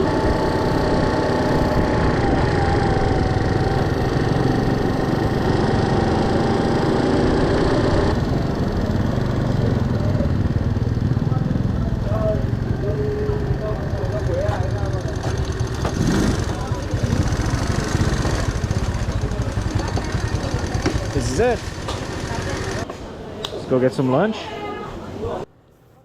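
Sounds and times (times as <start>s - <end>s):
small motorbike engine running: 0.0s - 22.9s
road and wind noise: 0.0s - 23.8s.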